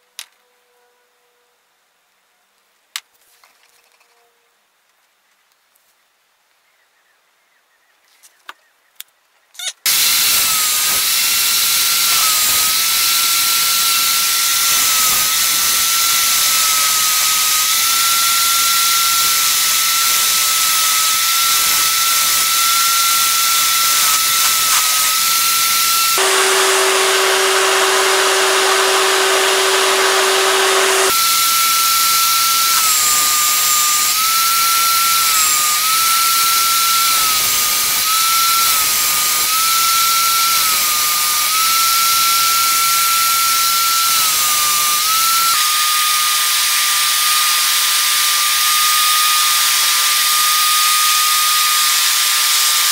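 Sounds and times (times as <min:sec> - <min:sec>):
angle grinder sanding: 0:09.8 - 0:52.9.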